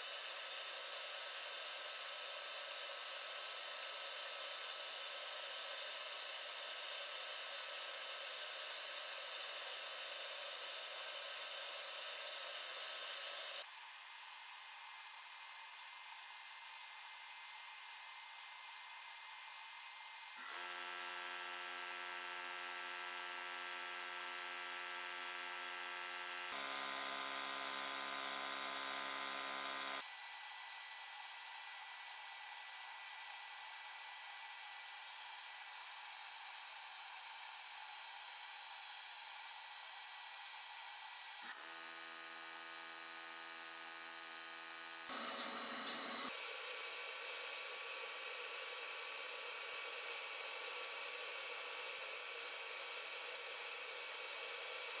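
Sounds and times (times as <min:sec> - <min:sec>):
rotary tool whine with hiss: 0:00.0 - 0:55.0.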